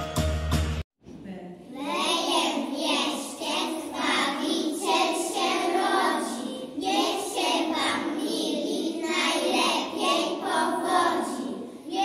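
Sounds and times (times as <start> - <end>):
children singing together: 1.7 - 12.0.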